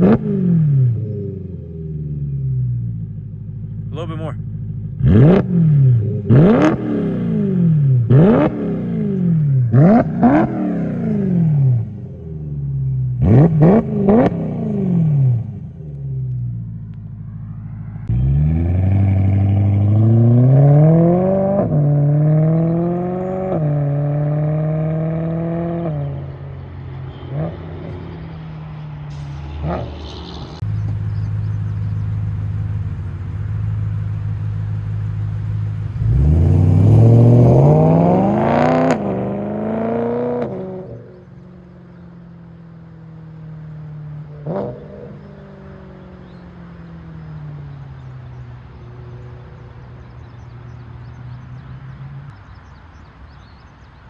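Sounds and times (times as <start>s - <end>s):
unmuffled car engine revving: 0.0s - 53.0s.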